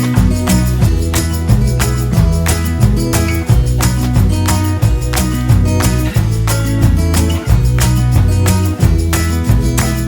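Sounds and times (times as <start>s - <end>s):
music with guitar and beat: 0.0s - 10.0s.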